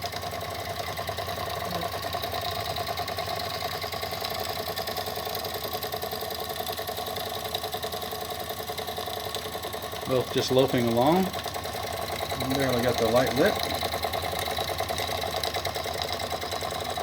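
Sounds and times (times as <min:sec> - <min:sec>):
toy steam engines running: 0:00.0 - 0:17.0.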